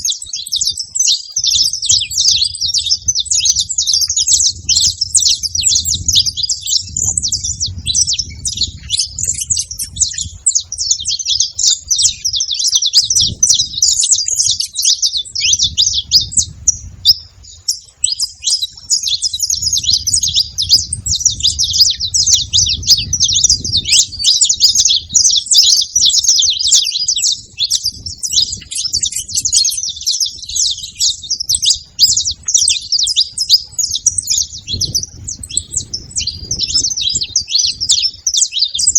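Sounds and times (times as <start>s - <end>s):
finches chirping and singing: 0.0s - 38.9s.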